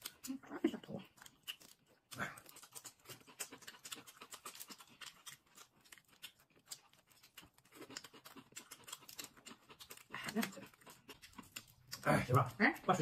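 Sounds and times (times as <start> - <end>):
chewing and lip smacks: 0.0 - 13.0.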